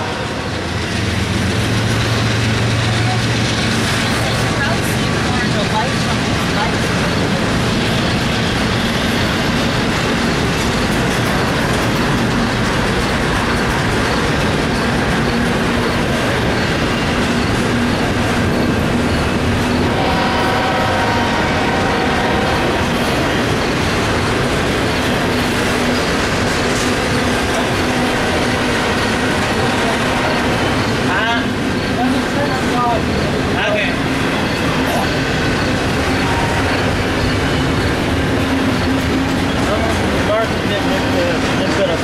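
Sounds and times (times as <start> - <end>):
train wheels clattering on rails: 0.0 - 42.0.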